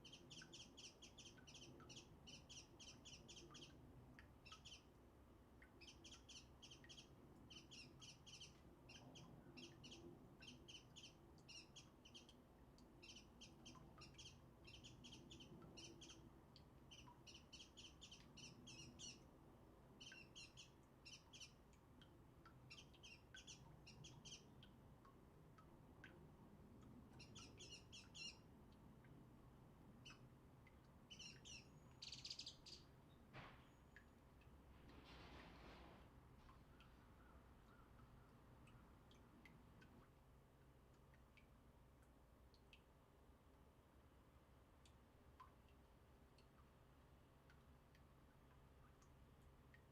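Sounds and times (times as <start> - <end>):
songbirds chirping and twittering: 0.0 - 49.9.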